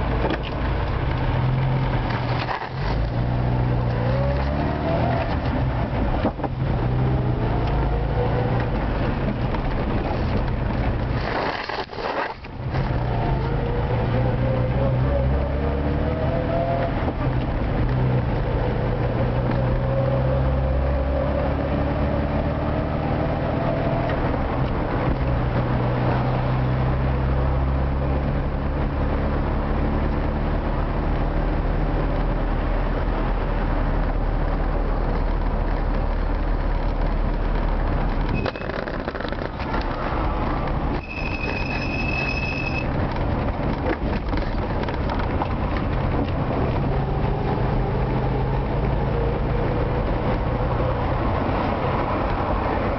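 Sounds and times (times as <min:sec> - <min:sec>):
car engine drone: 0:00.0 - 0:52.9
road noise: 0:00.0 - 0:52.9.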